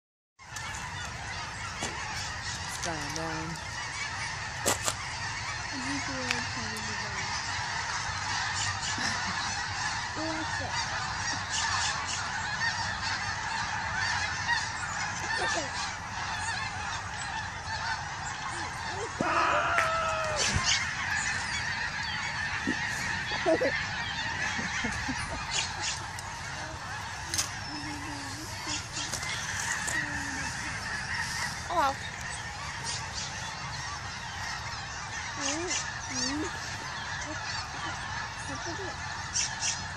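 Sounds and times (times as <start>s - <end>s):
flock of geese honking: 0.4s - 39.9s.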